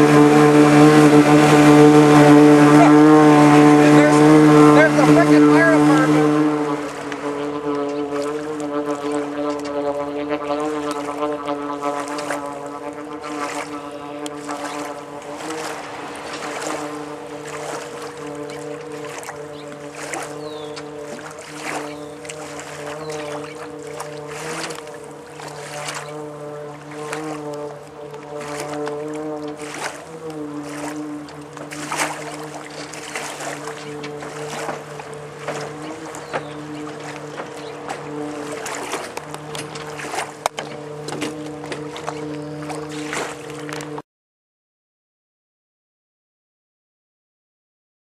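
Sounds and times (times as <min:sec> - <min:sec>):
boat engine running: 0:00.0 - 0:44.0
water splashing along hull: 0:00.0 - 0:44.0.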